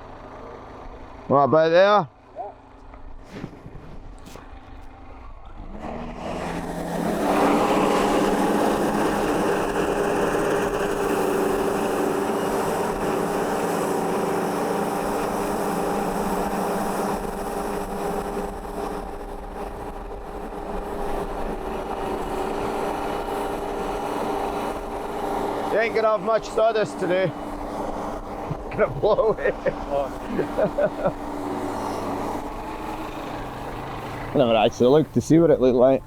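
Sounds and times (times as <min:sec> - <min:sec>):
band saw sawing through log: 0:05.7 - 0:35.8.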